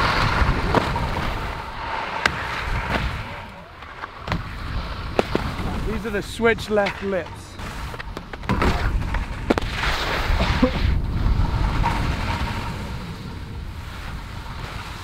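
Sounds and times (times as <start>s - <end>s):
skis sliding on snow: 0.0s - 3.8s, 4.4s - 15.0s.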